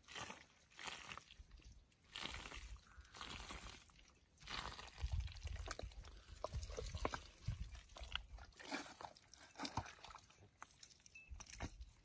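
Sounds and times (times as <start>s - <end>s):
hands squelching through wet mud: 0.0s - 12.0s.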